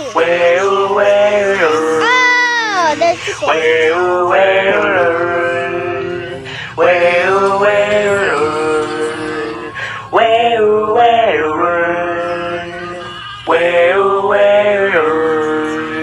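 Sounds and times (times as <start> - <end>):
person singing long held notes: 0.0 - 16.0.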